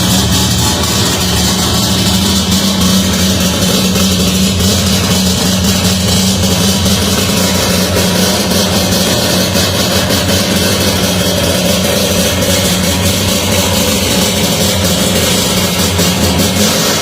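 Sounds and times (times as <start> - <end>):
rotary engine idling: 0.0 - 17.0.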